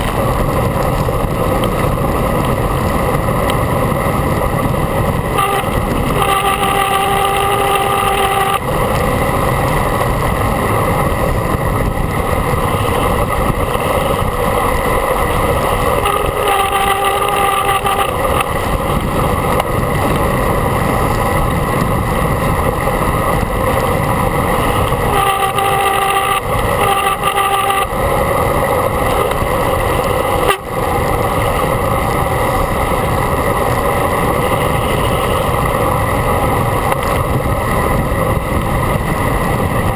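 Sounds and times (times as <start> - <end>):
road noise: 0.0 - 39.9
wind rushing on microphone: 0.0 - 39.9.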